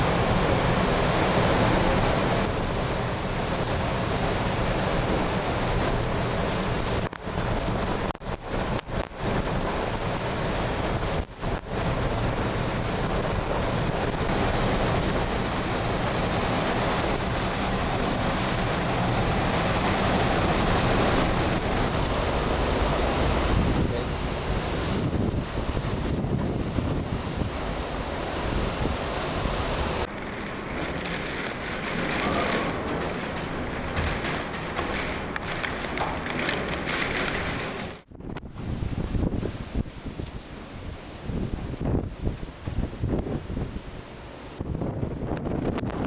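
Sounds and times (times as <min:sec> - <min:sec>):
breaking surf: 0:00.0 - 0:45.3
wind blowing across microphone: 0:00.0 - 0:46.0.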